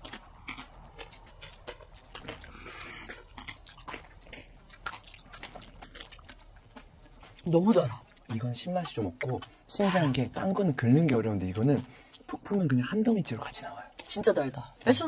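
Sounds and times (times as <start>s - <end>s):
chewing fruit pulp: 0.0s - 15.0s.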